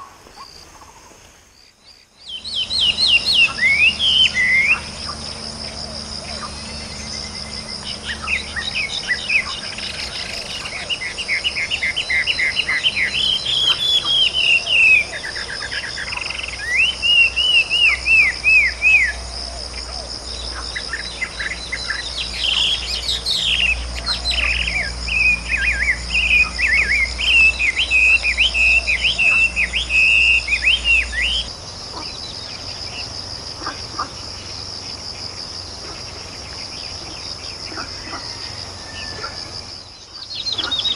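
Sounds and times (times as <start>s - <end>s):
high insect drone: 0.0s - 40.9s
songbird singing: 0.0s - 40.9s.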